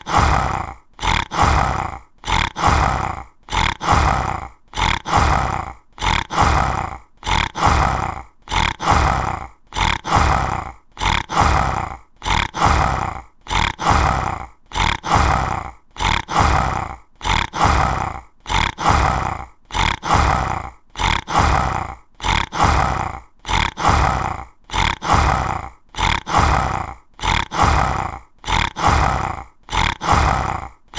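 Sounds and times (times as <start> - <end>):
tiger growling and roaring: 0.0 - 30.9.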